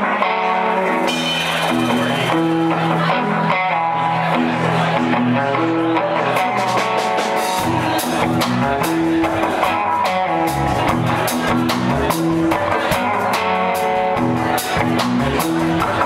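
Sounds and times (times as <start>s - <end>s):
electric guitar: 0.0s - 16.0s
rock band playing live: 0.0s - 16.0s.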